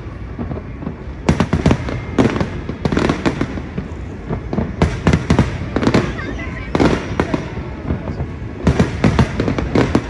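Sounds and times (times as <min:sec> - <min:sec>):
fireworks bursting with loud bangs: 0:00.0 - 0:10.0.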